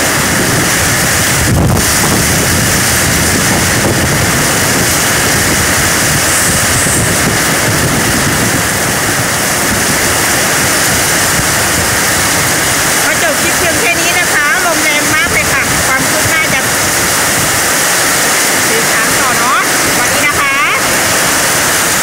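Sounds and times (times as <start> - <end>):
heavy rain pouring: 0.0 - 22.0
wind buffeting microphone: 0.0 - 22.0.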